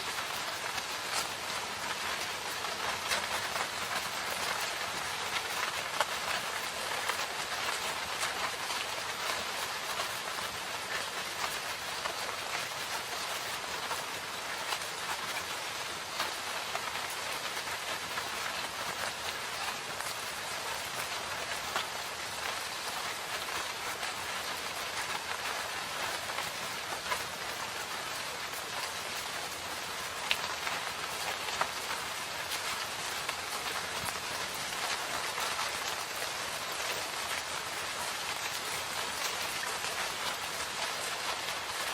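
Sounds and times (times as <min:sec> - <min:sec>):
rain pattering on leaves: 0:00.0 - 0:41.9.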